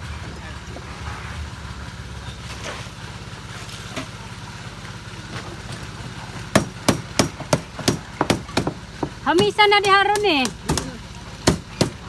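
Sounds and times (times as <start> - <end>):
machine engine droning: 0.0 - 12.0.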